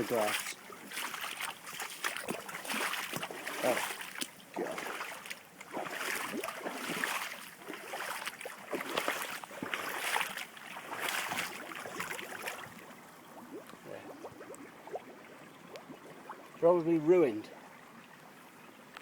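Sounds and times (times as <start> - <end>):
boots sloshing through water: 0.0 - 15.3.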